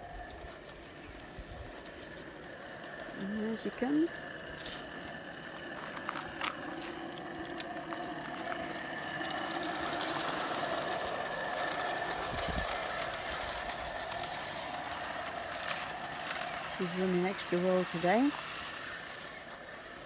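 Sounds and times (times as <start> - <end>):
model steam locomotive hissing: 0.0 - 20.0
wheels clicking: 0.0 - 20.0.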